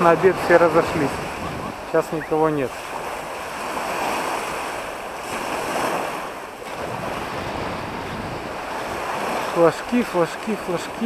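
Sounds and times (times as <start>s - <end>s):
wind buffeting microphone: 0.0s - 10.0s
small waves washing onto shore: 0.0s - 11.0s.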